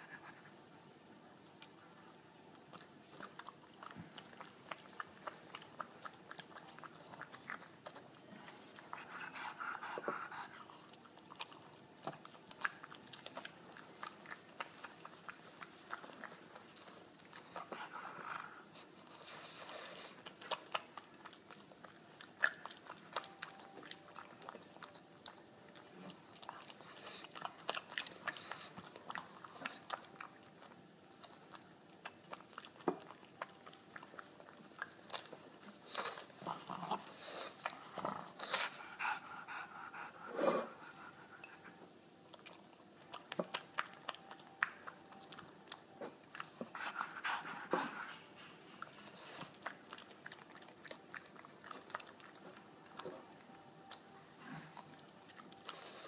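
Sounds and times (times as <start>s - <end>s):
dog chewing food: 1.4s - 56.0s.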